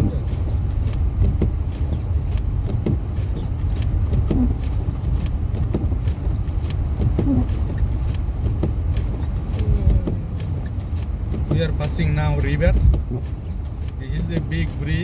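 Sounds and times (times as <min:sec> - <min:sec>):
truck rumbling inside cabin: 0:00.0 - 0:15.0.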